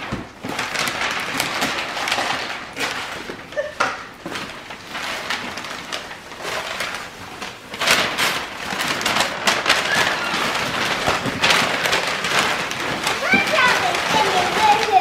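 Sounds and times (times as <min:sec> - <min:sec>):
wrapping paper tearing and crumpling: 0:00.0 - 0:15.0.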